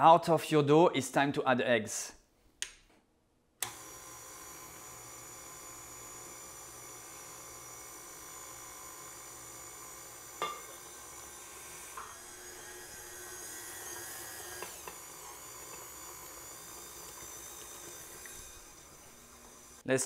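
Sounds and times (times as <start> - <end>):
stand mixer whining: 3.6 - 19.8.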